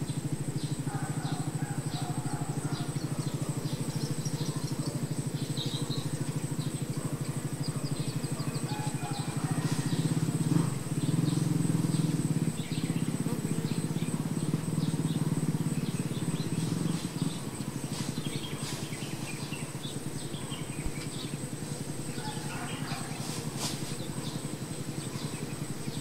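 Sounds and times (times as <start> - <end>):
bees buzzing: 0.9 - 26.0.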